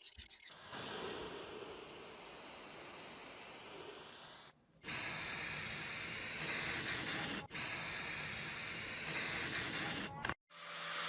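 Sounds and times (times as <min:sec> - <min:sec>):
spraying hiss: 0:00.6 - 0:10.0.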